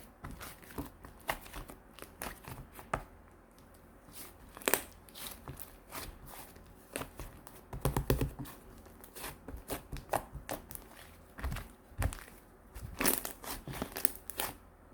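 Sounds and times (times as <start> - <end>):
hands squishing slime: 0.0 - 3.1, 4.0 - 14.6.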